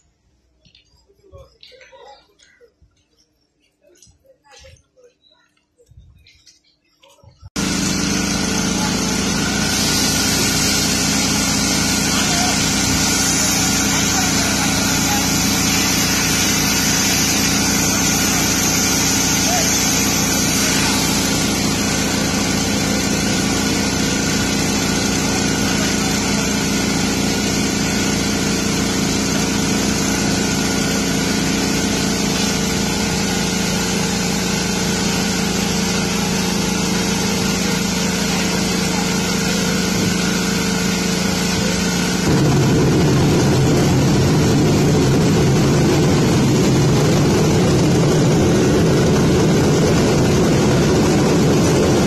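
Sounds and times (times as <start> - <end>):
engine running with pulsing beat: 7.5 - 52.0.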